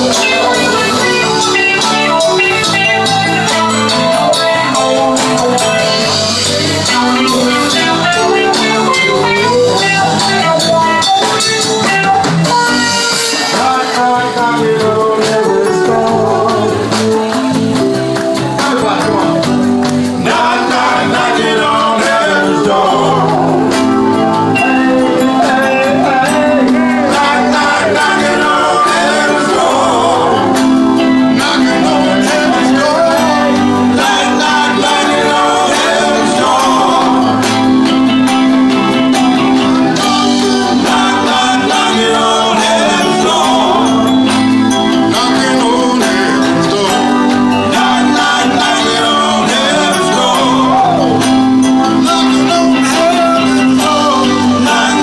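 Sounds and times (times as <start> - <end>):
drum kit: 0.0 - 55.0
electric guitars: 0.0 - 55.0
man singing: 0.0 - 55.0.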